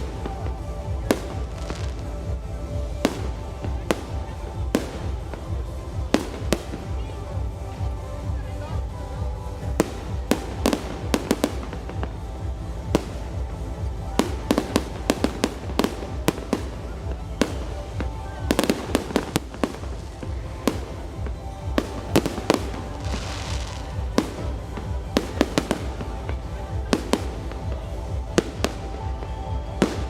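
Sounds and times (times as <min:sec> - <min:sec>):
fireworks bursting: 0:00.0 - 0:08.9, 0:09.6 - 0:30.0
background music: 0:00.0 - 0:30.0.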